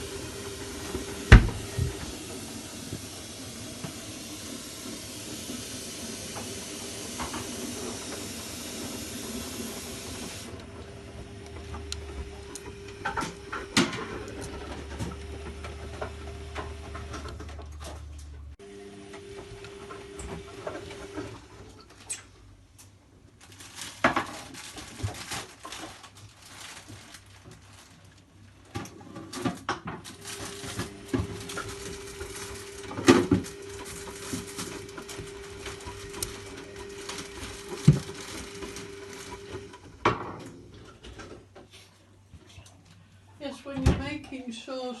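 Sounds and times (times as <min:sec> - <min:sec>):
washing machine motor hum: 0:00.0 - 0:23.4, 0:28.5 - 0:45.0.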